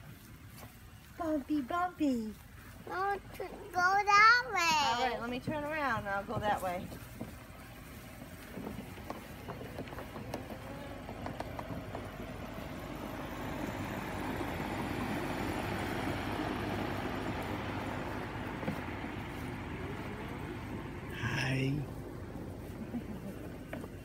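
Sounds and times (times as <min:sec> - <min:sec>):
plastic wagon rattling over grass: 0:00.0 - 0:24.0.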